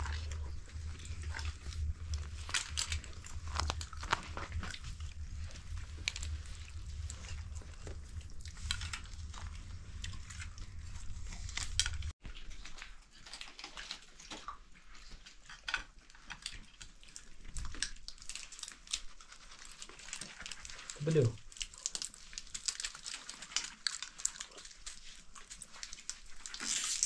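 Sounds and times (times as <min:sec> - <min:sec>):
children eating crunchy food: 0:00.0 - 0:27.0.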